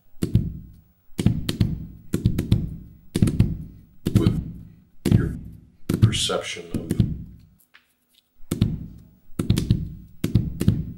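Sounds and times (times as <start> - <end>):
rubber ball bouncing on hard surface: 0.2 - 7.4, 8.5 - 10.9.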